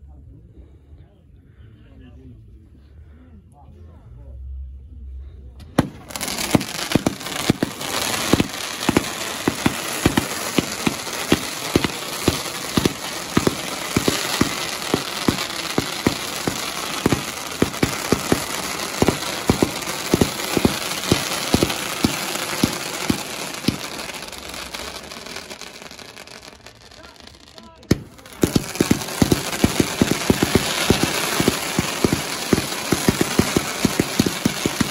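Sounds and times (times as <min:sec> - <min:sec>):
fireworks shots: 0:05.6 - 0:34.9
crackling hiss of fireworks: 0:05.8 - 0:34.9.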